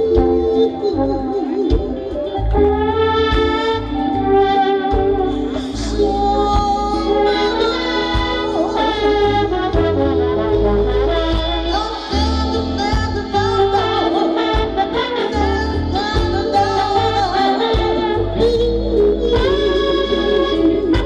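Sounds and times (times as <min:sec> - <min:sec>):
soul band playing: 0:00.0 - 0:21.0
trombone sliding notes: 0:00.0 - 0:21.0
woman singing: 0:00.0 - 0:21.0.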